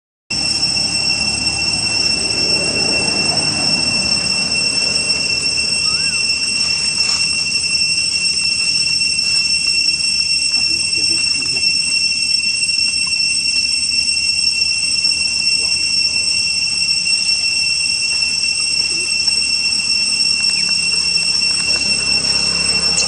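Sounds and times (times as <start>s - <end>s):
cicadas droning: 0.3s - 23.0s.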